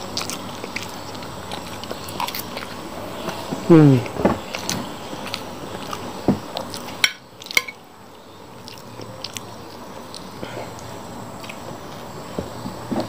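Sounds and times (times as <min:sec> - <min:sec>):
chewing mouth sounds: 0:00.0 - 0:07.6, 0:08.6 - 0:12.1.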